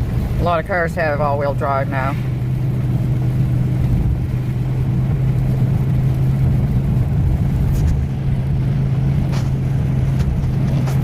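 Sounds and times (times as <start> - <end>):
car cabin road and engine drone: 0.0 - 11.0.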